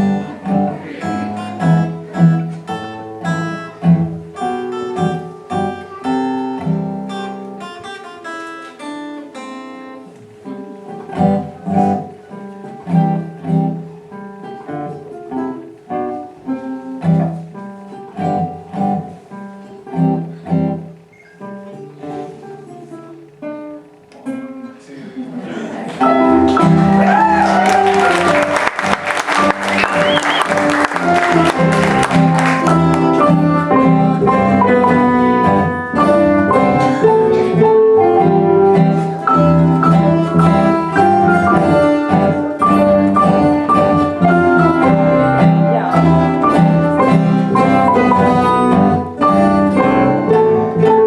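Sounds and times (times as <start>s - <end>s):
acoustic guitar plucking: 0.0s - 24.9s, 26.0s - 51.0s.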